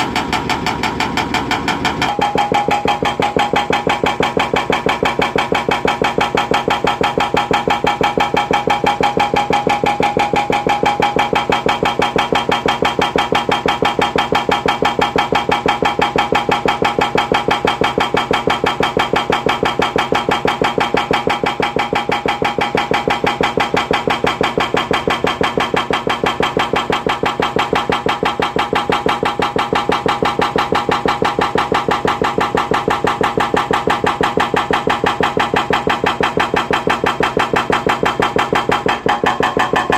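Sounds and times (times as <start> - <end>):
engine running: 0.0 - 39.9
hydraulic breaker hammering concrete: 0.0 - 39.9.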